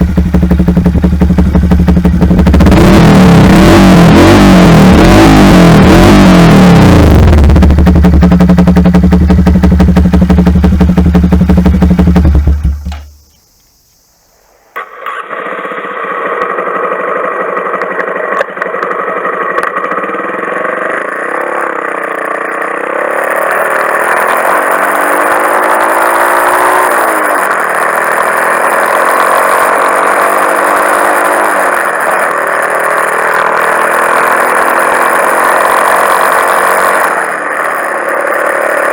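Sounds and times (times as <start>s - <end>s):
motorcycle engine revving high: 0.0s - 13.2s, 14.8s - 38.9s.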